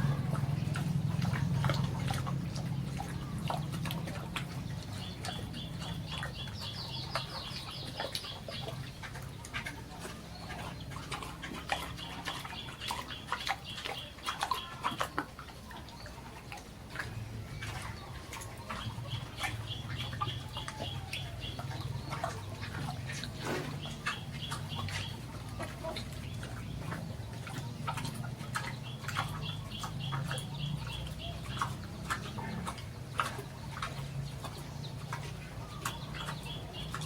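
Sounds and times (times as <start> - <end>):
bird rapid chirping: 0.0 - 15.0, 17.6 - 37.0.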